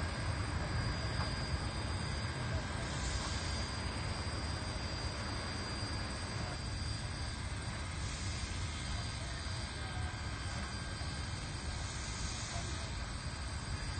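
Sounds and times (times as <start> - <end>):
distant steam locomotive rumble: 0.0 - 13.9.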